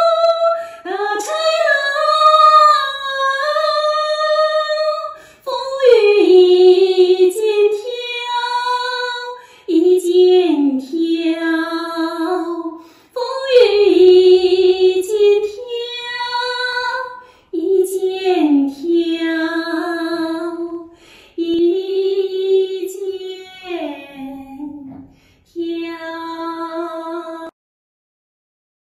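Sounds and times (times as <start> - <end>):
woman singing a cappella: 0.0 - 27.5.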